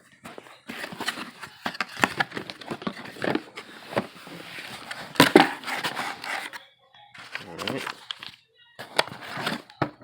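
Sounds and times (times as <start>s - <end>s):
box clattering: 0.2s - 6.6s, 7.2s - 10.0s
packaging rustling and crinkling: 0.2s - 6.6s, 7.2s - 9.8s.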